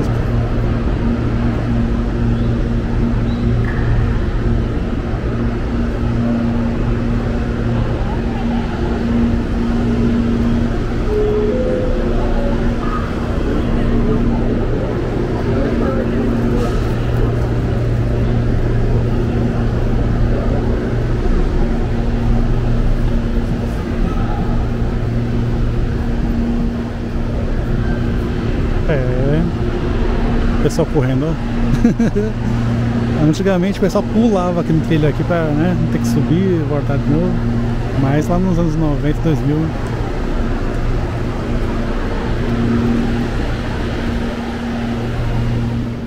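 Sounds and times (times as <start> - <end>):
electric train hum: 0.0 - 46.0
station noise: 0.0 - 46.0.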